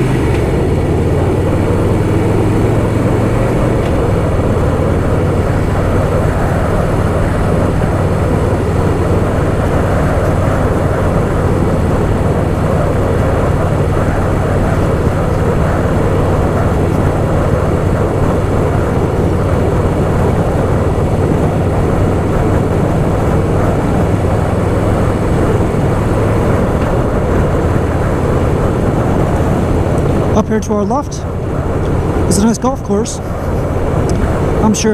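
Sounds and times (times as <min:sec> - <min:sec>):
motorcycle engine running: 0:00.0 - 0:34.9
road and air noise: 0:00.0 - 0:34.9.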